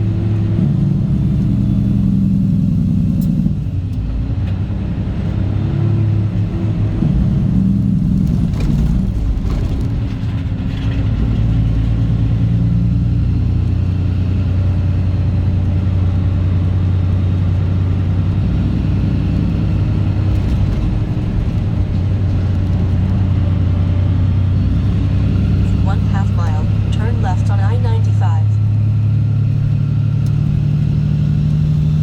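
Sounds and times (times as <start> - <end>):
diesel truck engine droning: 0.0 - 32.0.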